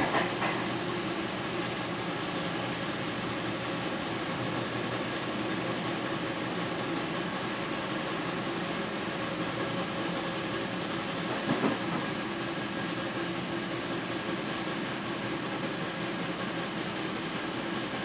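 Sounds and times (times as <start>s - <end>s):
subway car rumble: 0.0s - 18.0s.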